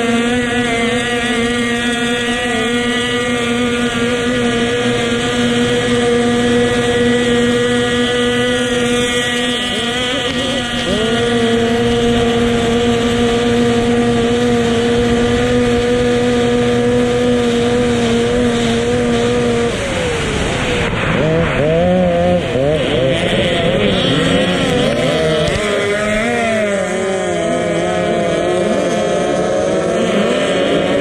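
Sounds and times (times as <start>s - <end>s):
powerboat engine running: 0.0s - 31.0s.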